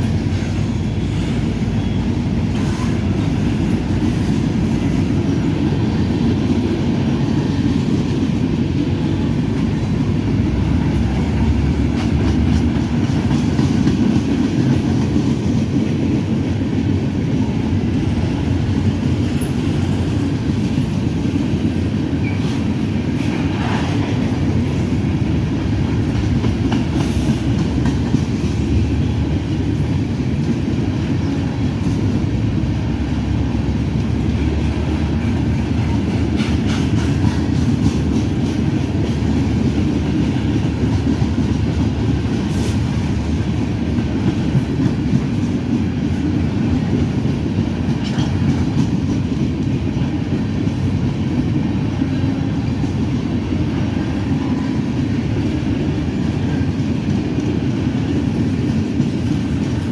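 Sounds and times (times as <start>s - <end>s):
freight train cars rumbling past: 0.0s - 59.9s
wheels clicking over rail joints: 2.5s - 16.8s, 18.2s - 53.2s.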